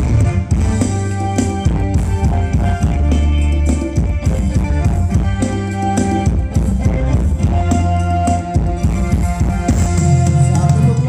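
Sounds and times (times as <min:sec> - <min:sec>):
bass line: 0:00.0 - 0:11.0
drum kit beat: 0:00.0 - 0:11.0
live band playing dance music: 0:00.0 - 0:11.0.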